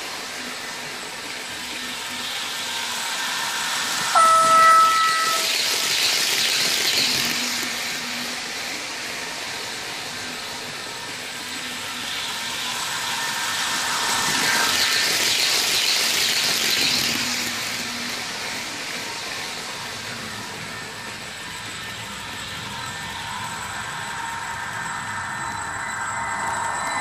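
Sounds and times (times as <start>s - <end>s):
model train running noise: 0.0s - 27.0s
wheels rolling on track: 0.0s - 27.0s.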